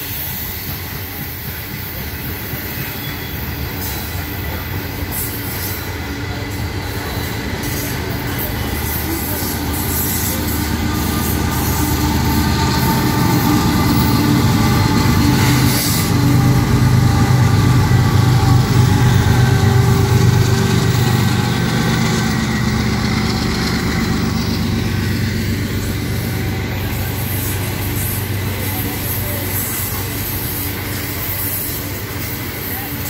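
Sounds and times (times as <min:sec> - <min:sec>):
diesel locomotive engines droning: 0:00.0 - 0:33.0
freight cars rolling on rails: 0:00.0 - 0:33.0.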